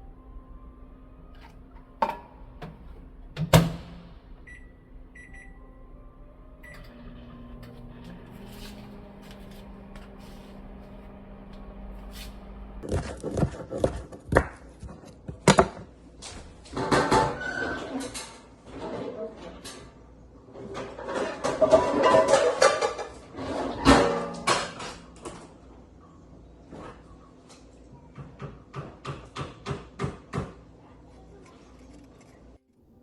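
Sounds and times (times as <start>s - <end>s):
low appliance hum: 0.0s - 33.0s.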